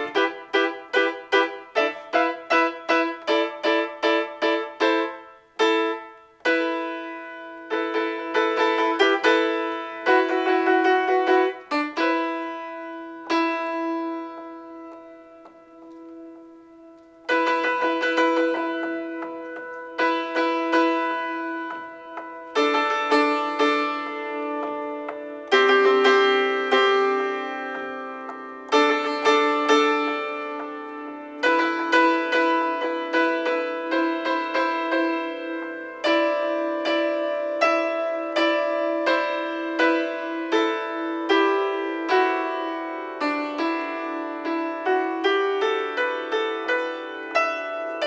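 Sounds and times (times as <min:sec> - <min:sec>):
solo piano: 0:00.0 - 0:48.0.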